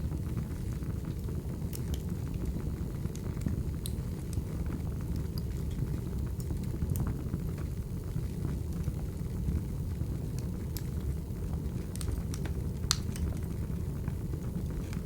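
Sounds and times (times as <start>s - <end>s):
fire crackles and pops: 0.0s - 15.0s
wood fire low rumble: 0.0s - 15.0s.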